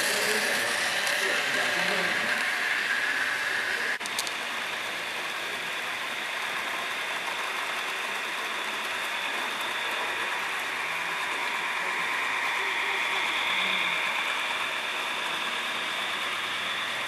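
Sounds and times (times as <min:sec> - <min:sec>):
model trains whirring: 0:00.0 - 0:17.0.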